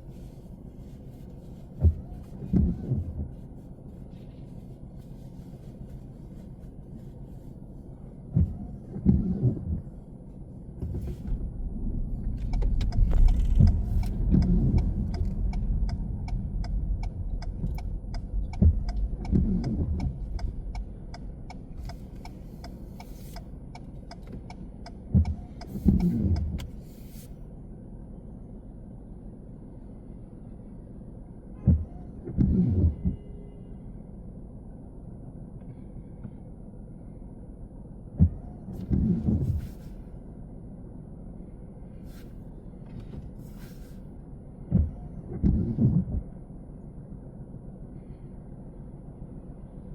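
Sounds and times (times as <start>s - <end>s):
car road rumble: 0.0s - 49.9s.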